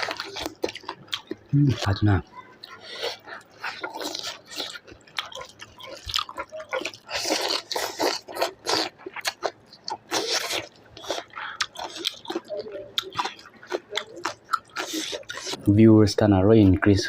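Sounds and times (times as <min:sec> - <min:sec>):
person chewing: 0:00.0 - 0:15.7.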